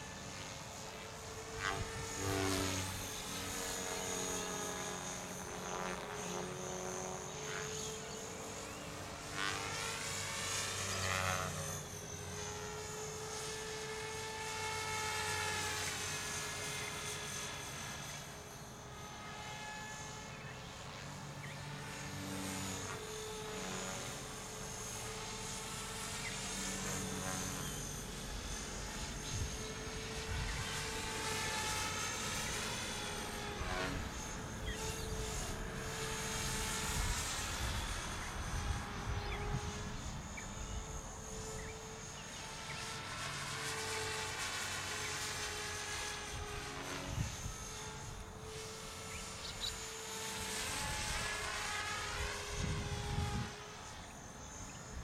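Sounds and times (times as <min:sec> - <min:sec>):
rc helicopter motor and rotors whining: 0:00.0 - 0:55.0.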